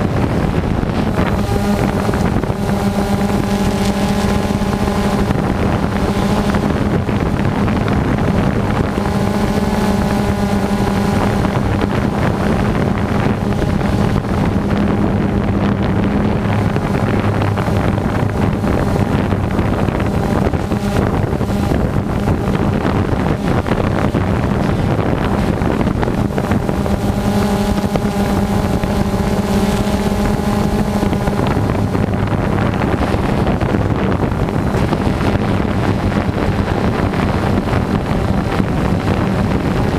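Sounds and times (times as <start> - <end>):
drone propellers buzzing: 0.0 - 39.9
wind on microphone: 0.0 - 39.9.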